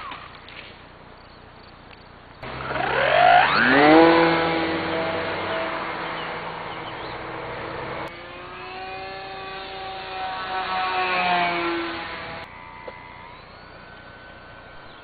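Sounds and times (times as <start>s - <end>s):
electric motor and propeller whine: 2.4s - 15.0s.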